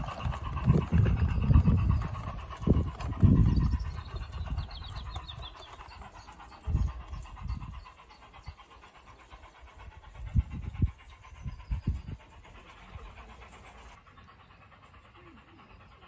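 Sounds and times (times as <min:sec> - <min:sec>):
model train humming on track: 0:00.0 - 0:16.0.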